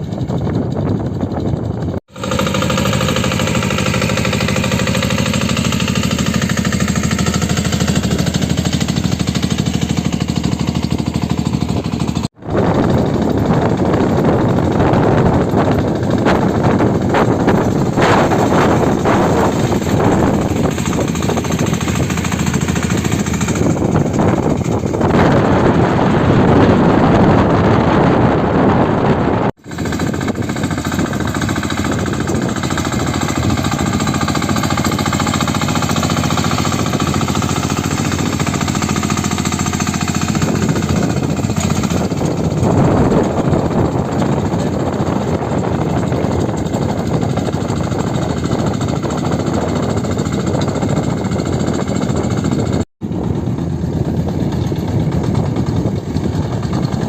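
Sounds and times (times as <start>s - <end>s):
farm vehicle engine running: 0.0s - 57.0s.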